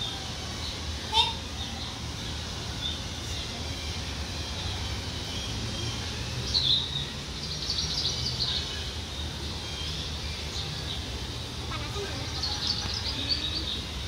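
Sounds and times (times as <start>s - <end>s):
birds chirping: 0.0s - 14.0s
low outdoor background rumble: 0.0s - 14.0s.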